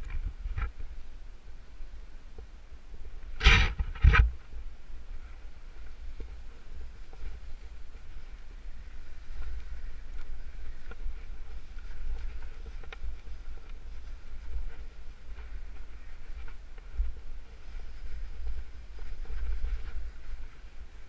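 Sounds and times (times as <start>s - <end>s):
low rumble on microphone: 0.0s - 21.0s.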